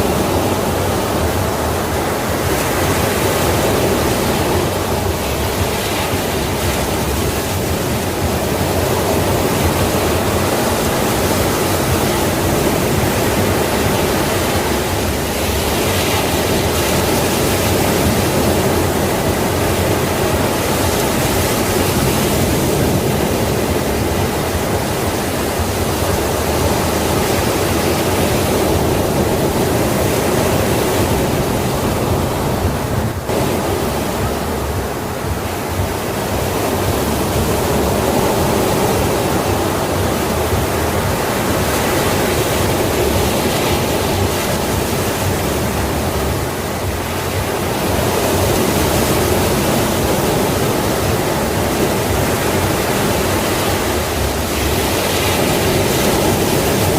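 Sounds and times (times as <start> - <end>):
sea waves washing ashore: 0.0 - 56.9.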